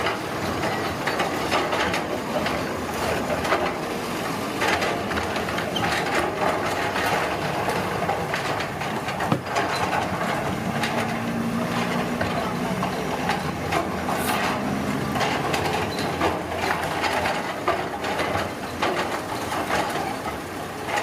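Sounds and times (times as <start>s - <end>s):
construction machinery clatter: 0.0s - 21.0s
machinery steady rumble: 0.0s - 21.0s.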